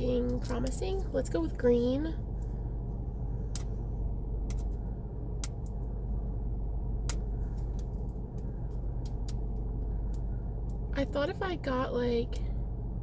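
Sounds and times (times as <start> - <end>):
low hum inside car: 0.0 - 13.0.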